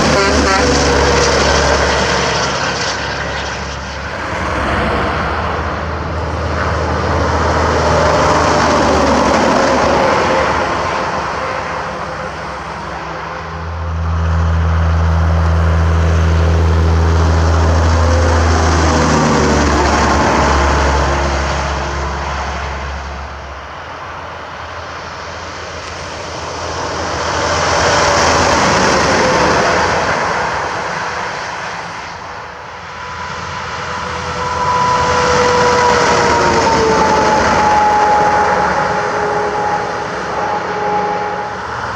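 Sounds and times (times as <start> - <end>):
heavy trucks passing: 0.0 - 41.9
low engine drone: 0.0 - 41.9.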